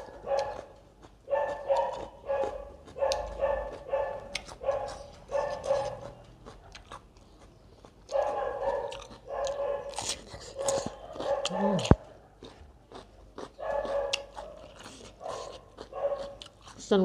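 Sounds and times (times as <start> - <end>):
dog barking: 0.0 - 7.0, 8.1 - 16.8.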